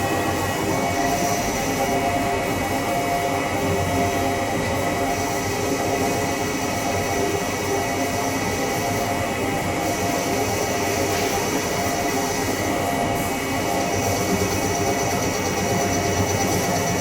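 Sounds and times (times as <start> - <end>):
lathe machine running: 0.0 - 17.0
thin high whine: 0.0 - 17.0.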